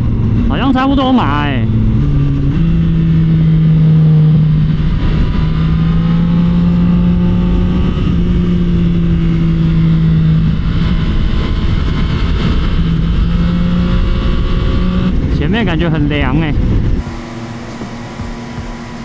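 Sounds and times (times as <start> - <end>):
motorcycle engine cruising: 0.0 - 19.0
road and wind rush: 0.0 - 19.0.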